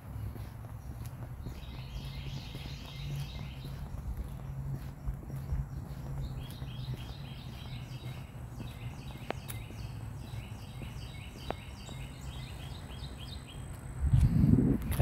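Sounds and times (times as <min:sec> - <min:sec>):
songbird singing falling chirps: 0:00.0 - 0:15.0.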